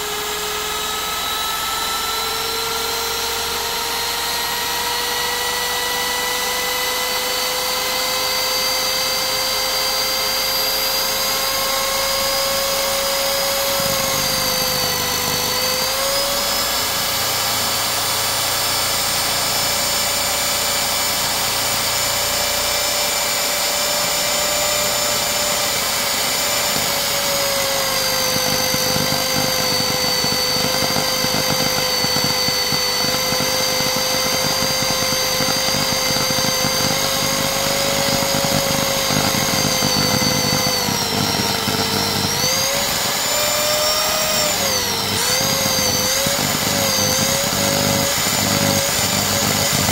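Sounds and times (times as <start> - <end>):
hand mixer motor whine: 0.0 - 49.9.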